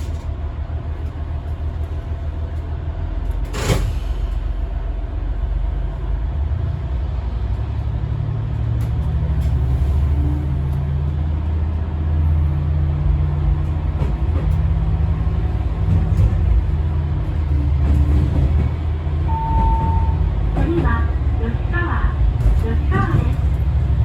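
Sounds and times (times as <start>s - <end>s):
diesel engine drone: 0.0s - 24.0s.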